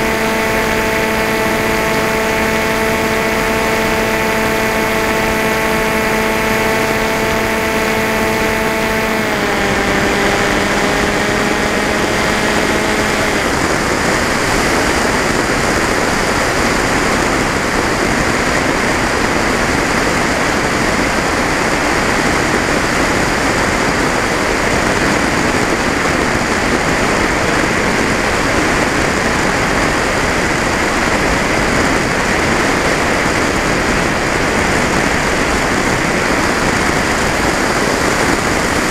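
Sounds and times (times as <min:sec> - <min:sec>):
model plane motor whining: 0:00.0 - 0:38.9.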